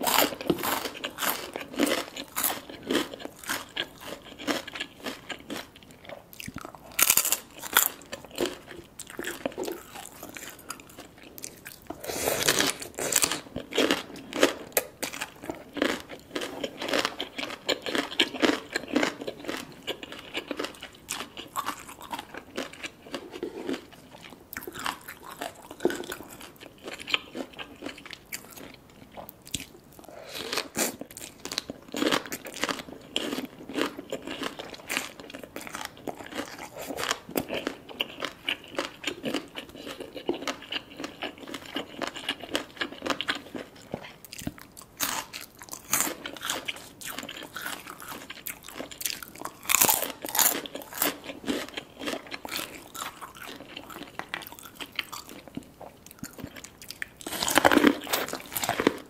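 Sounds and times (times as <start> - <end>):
crunching and chewing food: 0.0 - 59.0.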